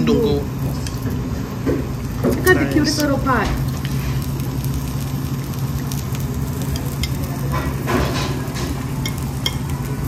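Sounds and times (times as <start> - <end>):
meat sizzling on grill: 0.0 - 10.0
steady low hum: 0.0 - 10.0.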